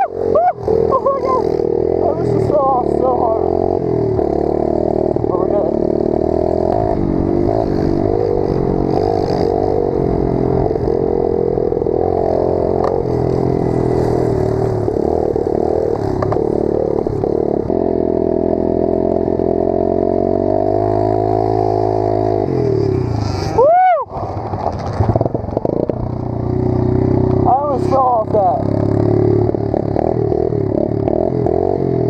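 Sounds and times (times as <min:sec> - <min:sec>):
pit bike engine running: 0:00.0 - 0:32.0.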